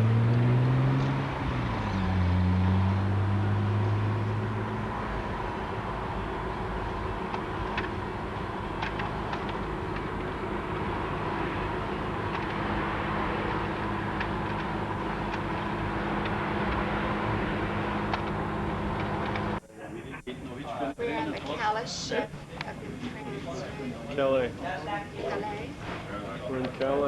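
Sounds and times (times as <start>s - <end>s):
vehicle drone: 0.0s - 27.0s.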